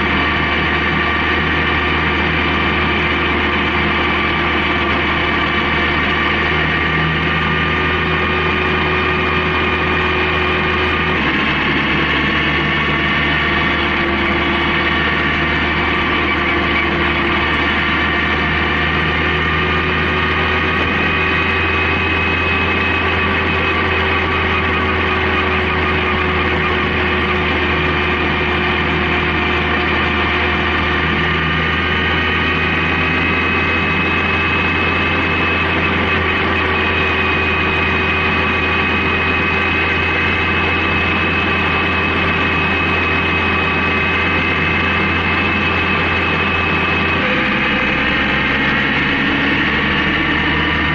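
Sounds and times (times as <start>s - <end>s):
motorcycle engine humming: 0.0s - 50.9s
road noise: 0.0s - 50.9s.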